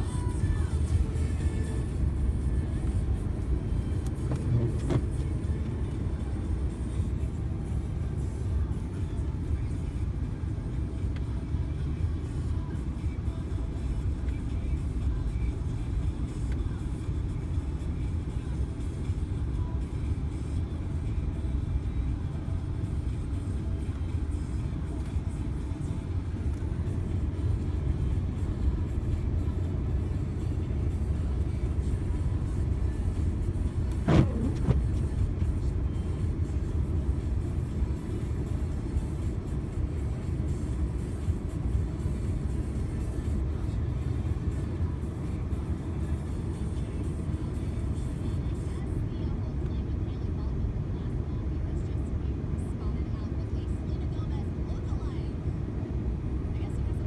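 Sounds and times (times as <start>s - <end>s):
pickup truck driving on snow: 0.0s - 57.0s.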